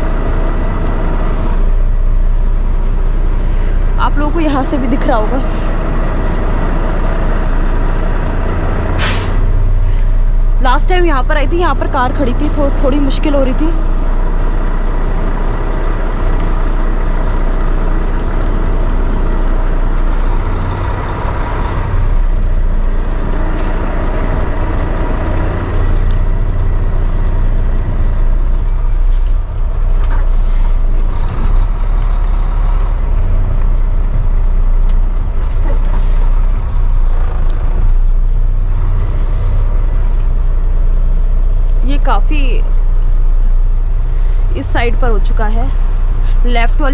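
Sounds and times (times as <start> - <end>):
truck diesel engine droning: 0.0 - 46.9.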